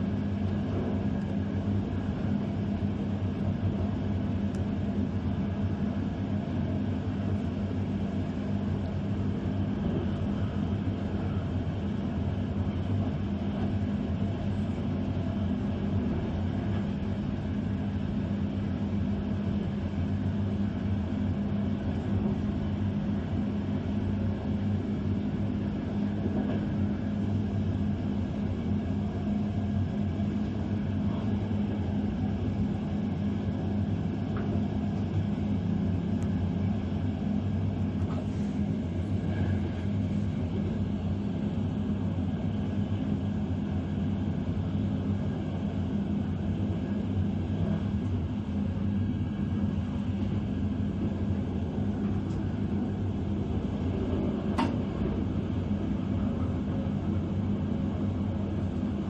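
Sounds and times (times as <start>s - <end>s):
steady hum: 0.0s - 59.0s
train rumbling on track: 0.2s - 59.0s.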